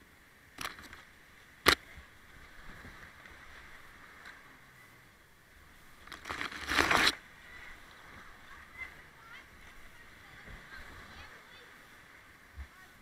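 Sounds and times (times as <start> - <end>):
white water rushing: 0.0 - 13.0.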